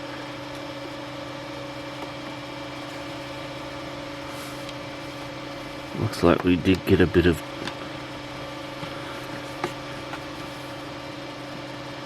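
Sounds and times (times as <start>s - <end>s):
cooling fans humming: 0.0s - 12.0s.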